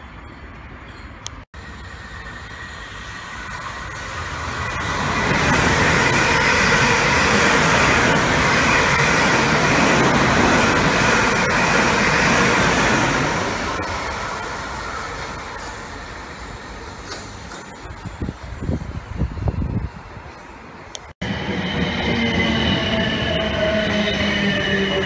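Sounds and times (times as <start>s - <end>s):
train wheel and rail noise: 0.0s - 25.0s.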